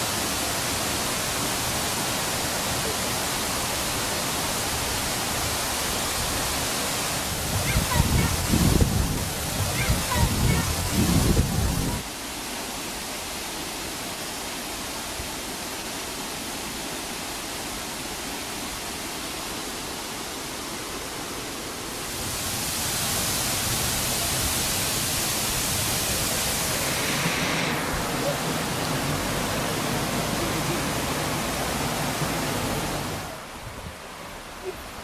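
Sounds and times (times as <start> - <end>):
rushing stream water: 0.0 - 35.0.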